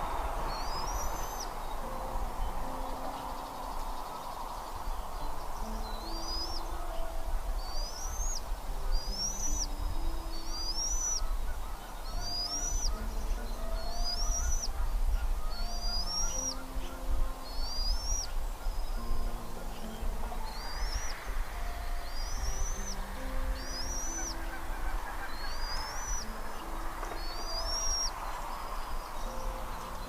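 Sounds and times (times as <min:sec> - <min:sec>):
bird whistling call: 0:00.0 - 0:30.0
soft music of low held notes: 0:00.0 - 0:30.0.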